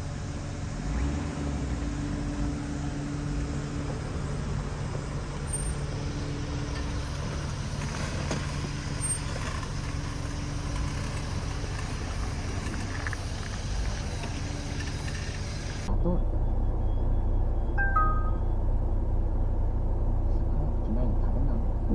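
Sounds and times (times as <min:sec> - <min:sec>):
vehicle engine humming while driving: 0:00.0 - 0:21.9.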